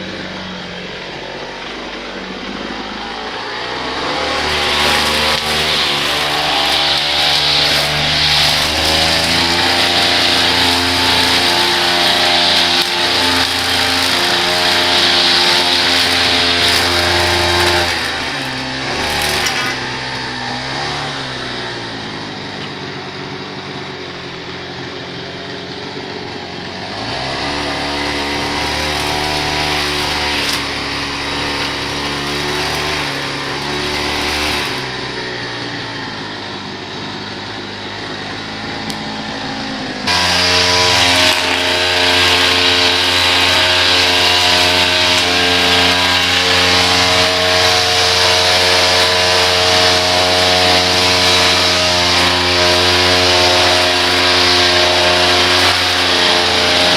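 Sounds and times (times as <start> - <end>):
small petrol engine running: 0.0 - 56.9.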